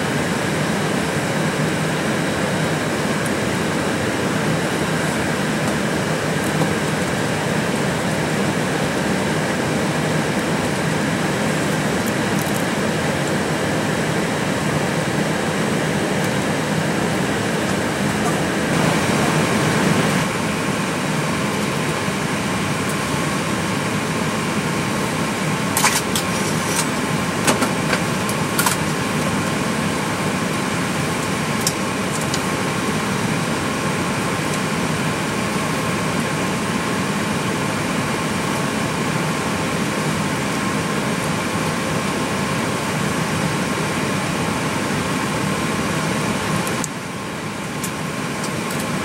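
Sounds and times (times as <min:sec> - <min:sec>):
air conditioning and fans humming: 0:00.0 - 0:49.0
faint steady whine: 0:00.0 - 0:49.0.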